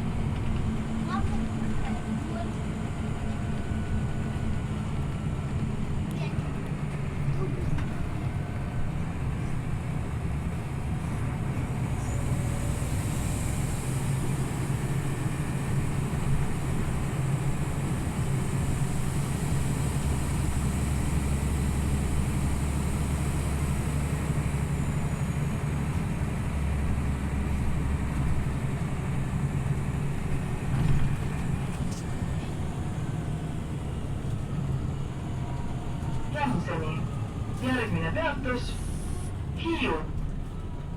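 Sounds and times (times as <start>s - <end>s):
bus engine hum: 0.0s - 40.9s
deep engine drone: 0.0s - 40.9s
road and tyre noise: 0.0s - 40.9s.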